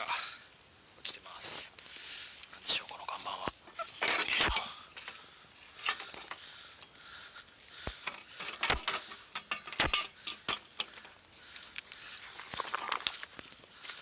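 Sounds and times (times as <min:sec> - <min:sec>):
footsteps on a trail: 0:00.0 - 0:14.0.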